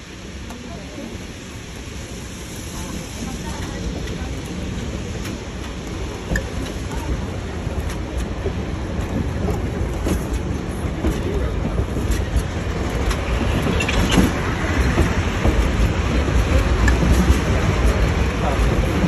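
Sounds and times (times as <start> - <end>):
steam train rumbling and rattling: 0.0 - 19.0.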